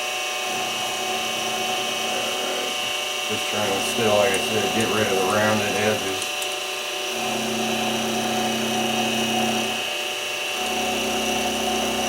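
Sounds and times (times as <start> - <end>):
milling machine motor whine: 0.0 - 12.0.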